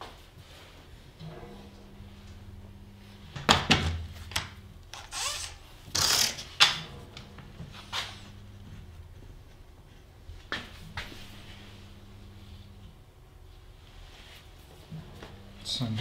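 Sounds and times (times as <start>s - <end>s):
faint steady hum: 0.3s - 16.0s.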